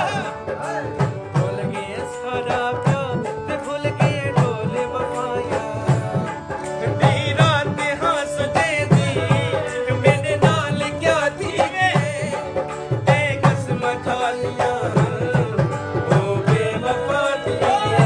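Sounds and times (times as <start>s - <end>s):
man singing folk song: 0.0s - 18.0s.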